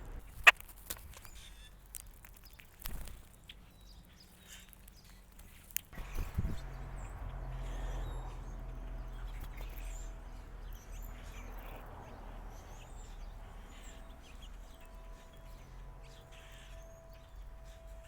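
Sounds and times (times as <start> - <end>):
low background rumble: 0.0 - 18.0
small birds chirping: 0.0 - 18.0.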